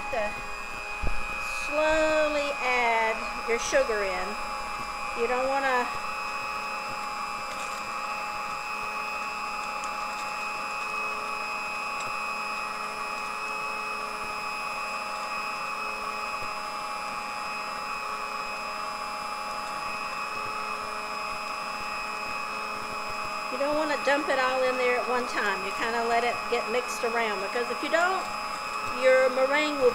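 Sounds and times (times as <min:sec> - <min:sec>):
stand mixer running: 0:00.0 - 0:29.9.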